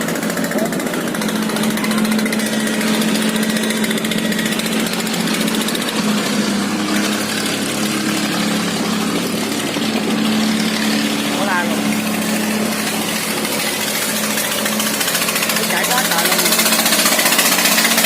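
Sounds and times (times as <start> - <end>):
motorboat engines droning: 0.0 - 18.0.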